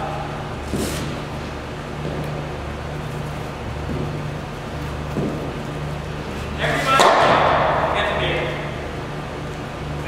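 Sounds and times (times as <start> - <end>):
hall room noise: 0.0 - 10.0
low hum: 0.0 - 10.0.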